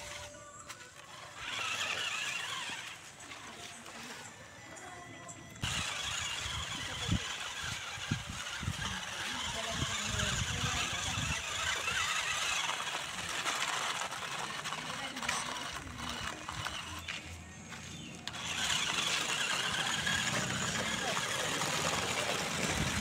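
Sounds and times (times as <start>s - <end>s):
tyres crunching on gravel: 0.0s - 4.5s, 5.6s - 23.0s
small electric motor whining: 0.0s - 23.0s.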